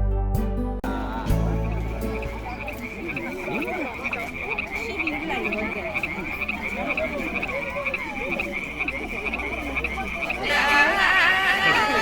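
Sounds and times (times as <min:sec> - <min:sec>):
wavering lower animal calls: 0:01.6 - 0:12.0.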